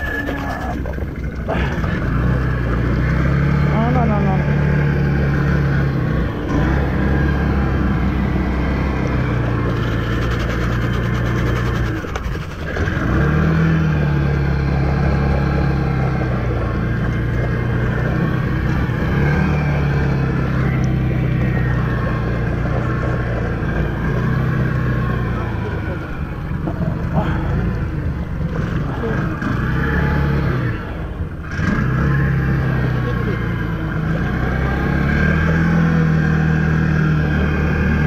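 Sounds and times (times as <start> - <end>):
engine revving: 0.0 - 38.0.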